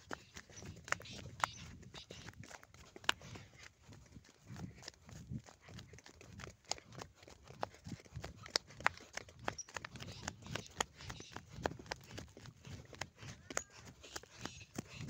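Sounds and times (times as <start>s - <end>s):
calf hooves on dirt: 0.0s - 15.0s
footsteps on dirt: 0.0s - 15.0s.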